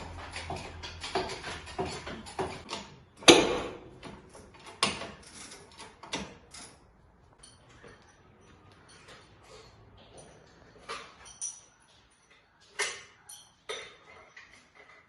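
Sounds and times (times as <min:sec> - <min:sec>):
tools clunking: 0:00.0 - 0:15.0.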